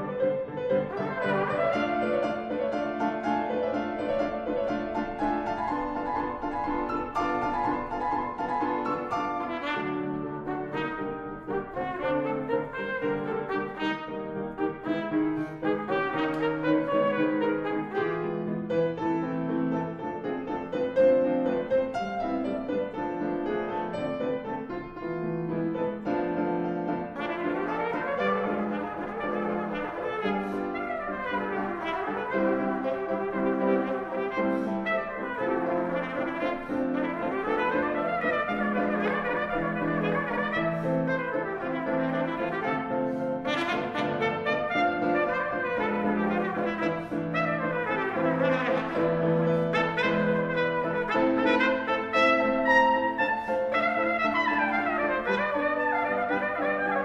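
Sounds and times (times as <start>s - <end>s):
trumpet: 0.0s - 19.2s, 25.9s - 57.0s
piano: 0.0s - 57.0s.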